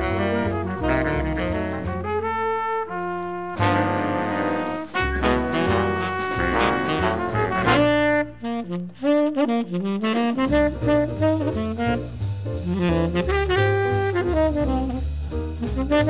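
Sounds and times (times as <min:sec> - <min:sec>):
bass line: 0:00.0 - 0:16.0
horns playing jazz melody: 0:00.0 - 0:16.0.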